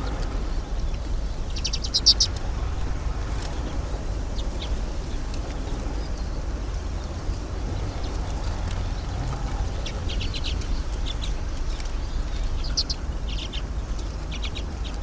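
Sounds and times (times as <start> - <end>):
songbird chattering calls: 0.0 - 15.0
wind buffeting microphone: 0.0 - 15.0.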